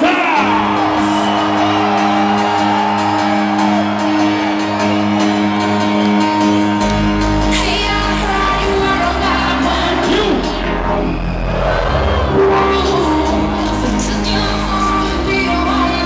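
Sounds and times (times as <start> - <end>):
hardstyle synth music: 0.0 - 16.0.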